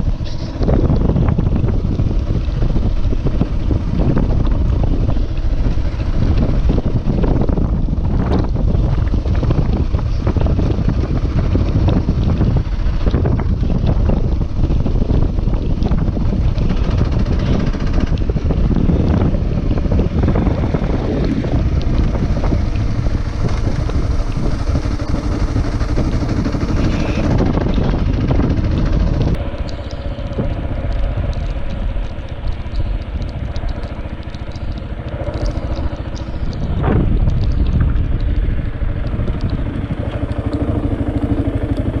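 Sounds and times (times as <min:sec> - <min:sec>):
motorcycle engine running: 0:00.0 - 0:42.0
wind buffeting microphone: 0:00.0 - 0:42.0.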